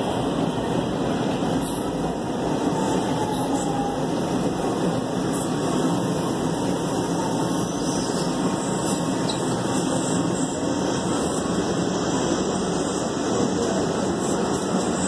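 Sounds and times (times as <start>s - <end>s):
subway car wheels rumbling on rails: 0.0s - 15.0s.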